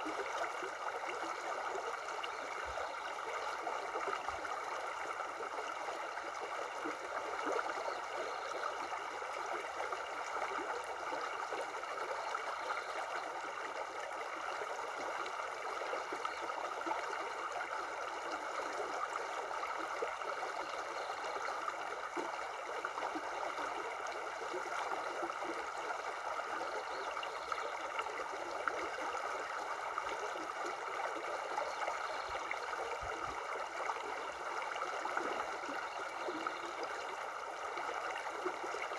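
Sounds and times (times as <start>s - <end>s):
river flowing over stones: 0.0s - 38.9s.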